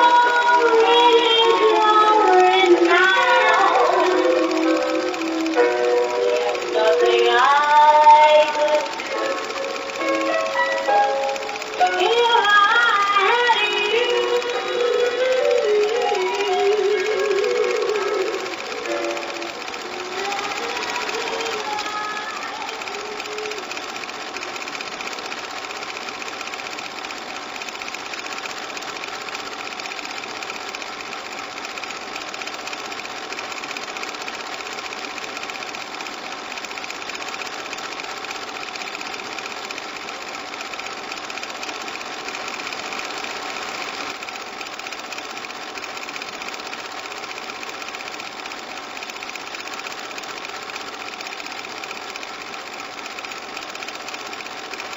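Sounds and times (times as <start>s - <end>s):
small machine whirring: 0.0s - 54.9s.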